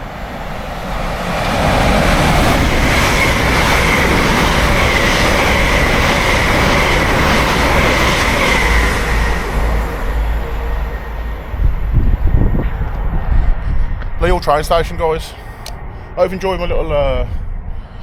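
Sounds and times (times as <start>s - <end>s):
train wheels rumbling over rails: 0.0s - 15.4s.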